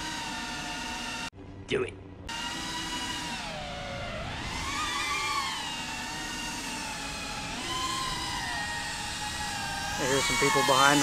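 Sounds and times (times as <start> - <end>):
drone motors whining: 0.0 - 1.3, 2.3 - 11.0.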